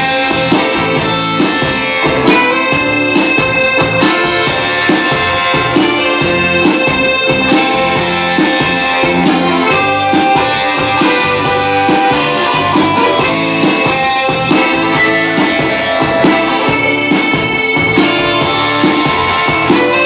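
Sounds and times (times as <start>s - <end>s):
guitar playing: 0.0s - 20.0s
steady drumbeat: 0.0s - 20.0s
sustained melodic tones: 0.0s - 20.0s.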